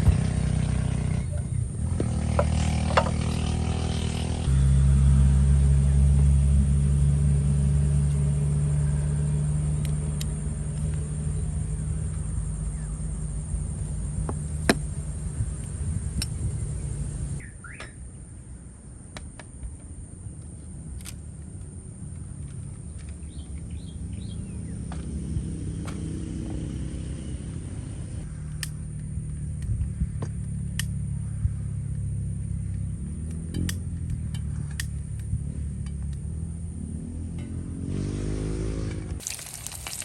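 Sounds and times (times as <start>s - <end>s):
engine running with low hum: 0.0s - 40.0s.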